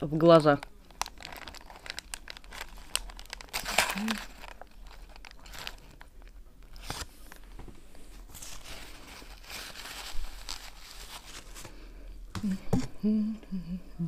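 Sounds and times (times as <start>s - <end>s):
paper wrapper crinkling: 0.0s - 11.9s.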